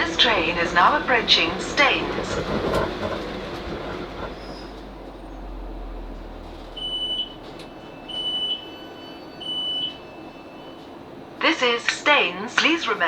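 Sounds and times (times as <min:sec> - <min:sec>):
train door warning beeps: 0:00.0 - 0:04.7, 0:06.5 - 0:13.0
train running rumble: 0:00.0 - 0:13.0.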